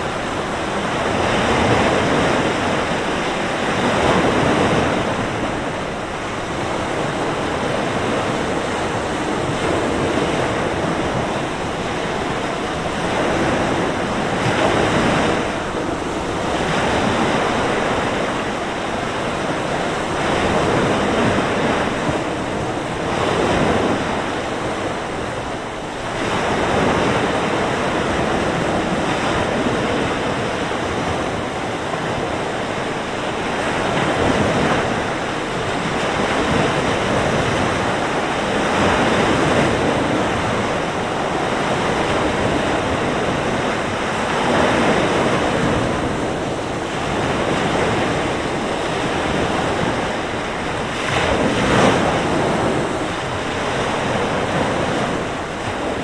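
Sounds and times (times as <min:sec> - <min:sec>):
steady wind: 0:00.0 - 0:56.0
surf breaking on beach: 0:00.0 - 0:56.0.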